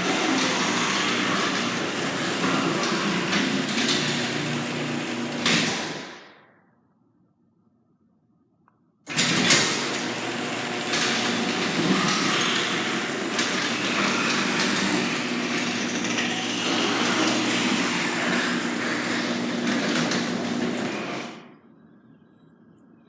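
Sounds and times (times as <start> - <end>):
garage door rattling: 0.0 - 6.3, 9.1 - 21.4
garage door opener motor hum: 0.0 - 6.4, 9.1 - 21.6.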